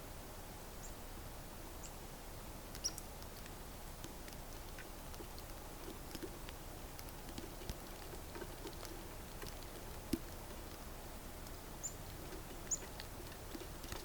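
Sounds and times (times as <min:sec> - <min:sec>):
squirrel feeding clicks: 0:02.7 - 0:14.0.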